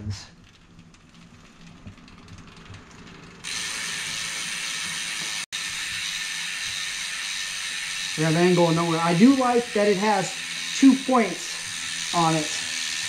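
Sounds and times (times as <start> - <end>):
bicycle freewheel ratcheting: 0.3 - 13.0.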